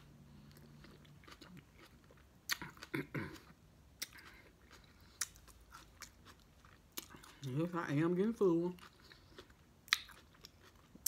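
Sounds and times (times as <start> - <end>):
person chewing with wet smacks: 0.3 - 11.0.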